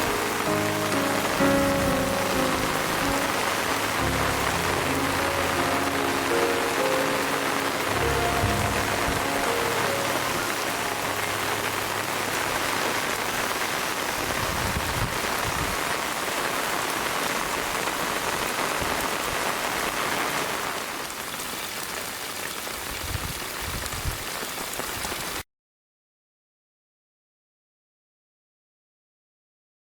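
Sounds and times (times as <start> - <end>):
steady rain falling: 0.0 - 25.4.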